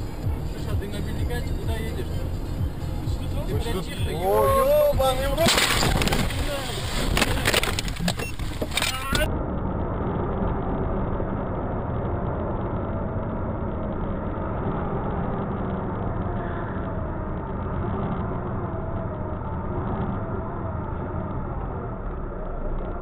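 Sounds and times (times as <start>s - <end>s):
road noise: 0.0s - 23.0s
truck engine drone: 0.0s - 23.0s.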